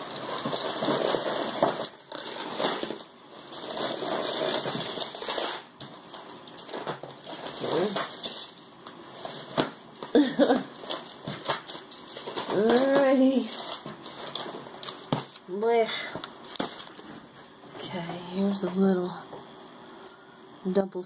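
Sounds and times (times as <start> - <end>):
jewelry rustling and clicking: 0.0 - 20.6.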